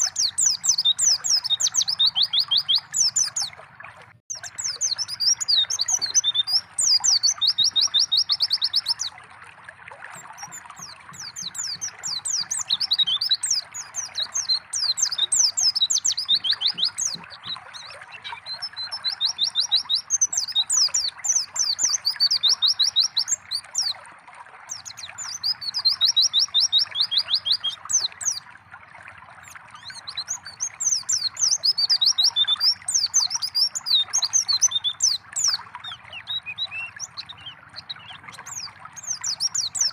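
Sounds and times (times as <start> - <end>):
birds chirping and trilling: 0.0 - 3.6, 4.3 - 9.2, 10.1 - 23.9, 24.7 - 28.4, 29.4 - 39.9
running water trickling: 0.0 - 39.9.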